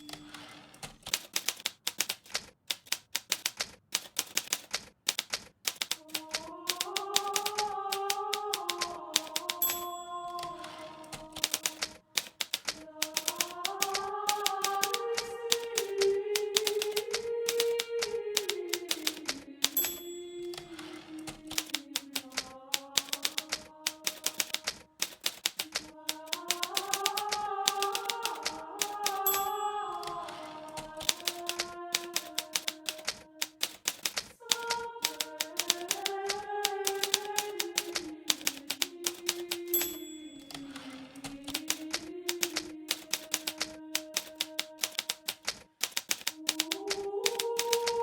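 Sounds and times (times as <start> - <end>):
typewriter keystroke clacks: 0.0 - 48.0.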